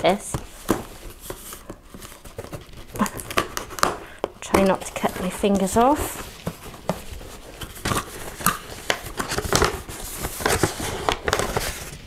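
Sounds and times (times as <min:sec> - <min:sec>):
scissors cutting cardboard: 0:00.0 - 0:11.9
paper bag rustling: 0:00.0 - 0:12.0.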